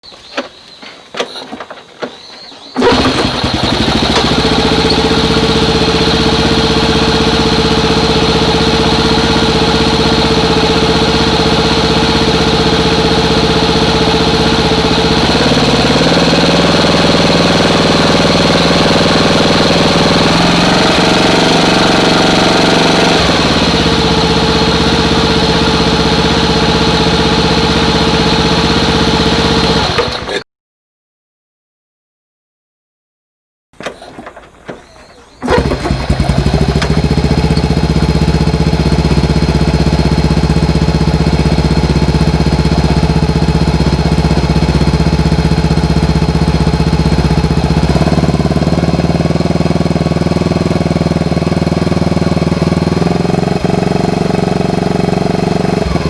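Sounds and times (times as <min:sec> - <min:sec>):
motorcycle engine idling: 0:02.8 - 0:30.4, 0:34.1 - 0:56.0.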